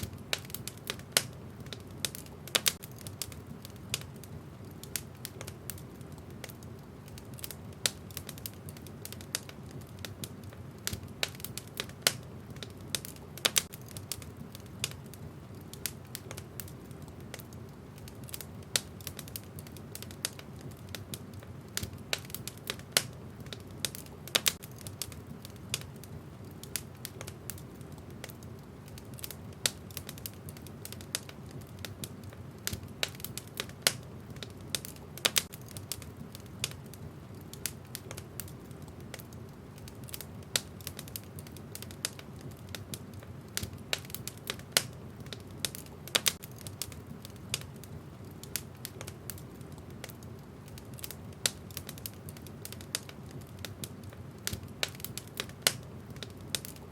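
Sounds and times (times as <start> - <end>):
low rumble of flames: 0.0 - 56.9
wood fire crackling: 0.0 - 56.9.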